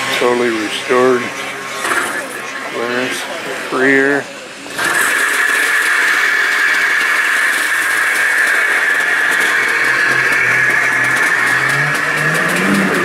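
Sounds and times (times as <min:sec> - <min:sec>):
snowmobile engine whining: 0:00.0 - 0:13.0.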